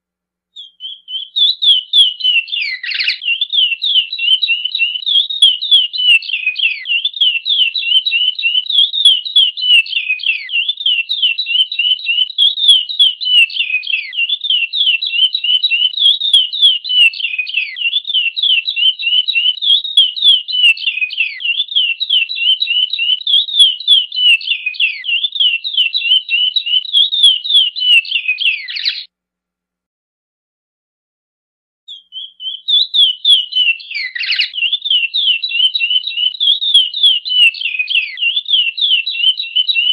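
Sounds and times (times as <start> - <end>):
finch singing whistled notes: 0.6 - 29.1, 31.9 - 39.9.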